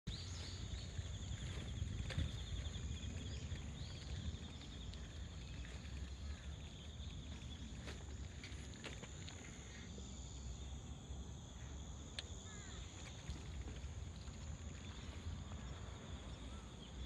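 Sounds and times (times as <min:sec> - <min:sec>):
insects trilling: 0:00.1 - 0:17.0.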